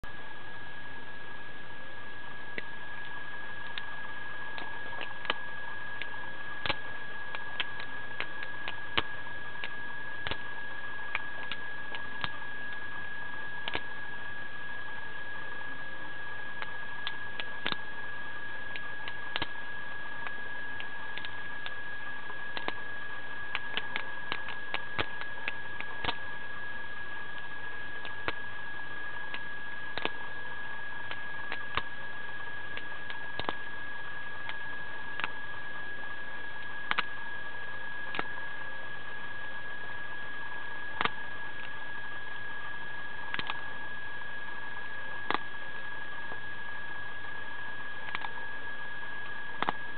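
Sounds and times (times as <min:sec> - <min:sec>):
high whine and hiss: 0:00.0 - 0:49.9.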